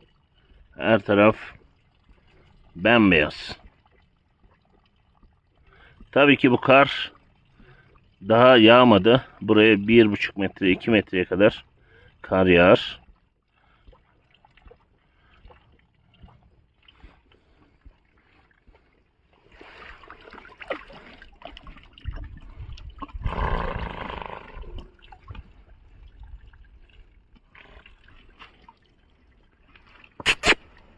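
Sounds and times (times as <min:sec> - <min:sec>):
horses slurping water: 0:00.0 - 0:30.9.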